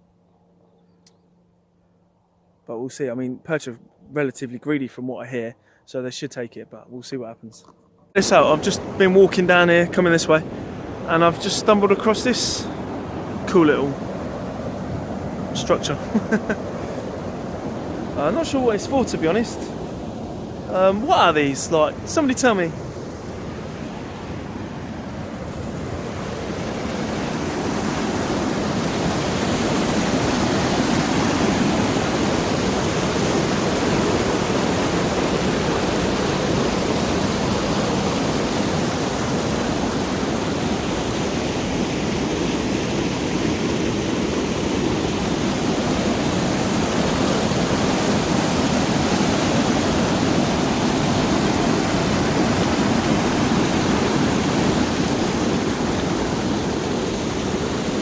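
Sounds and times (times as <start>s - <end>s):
flowing water rushing: 8.2s - 58.0s.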